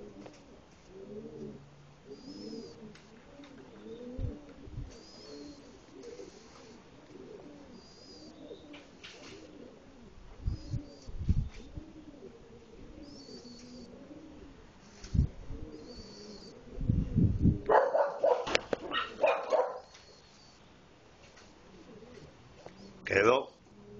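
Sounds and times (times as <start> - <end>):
pigeon cooing: 0.0 - 20.6, 21.3 - 23.9.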